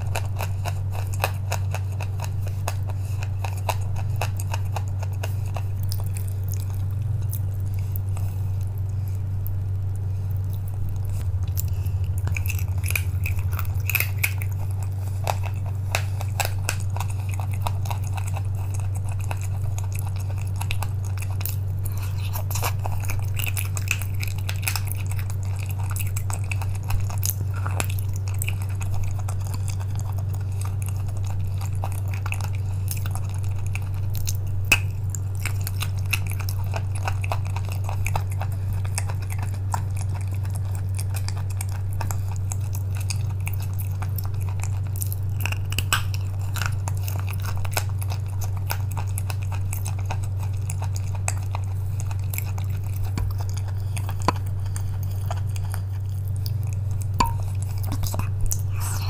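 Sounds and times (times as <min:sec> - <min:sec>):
chalk crunching while chewed: 0:00.0 - 0:59.0
steady low hum: 0:00.0 - 0:59.0.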